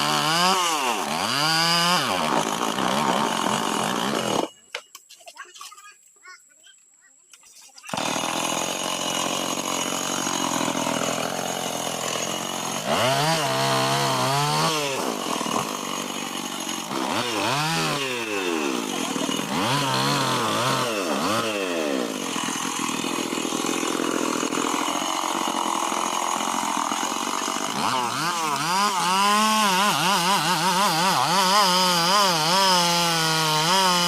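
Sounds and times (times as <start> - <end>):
chainsaw engine running: 0.0 - 4.6, 7.8 - 34.0.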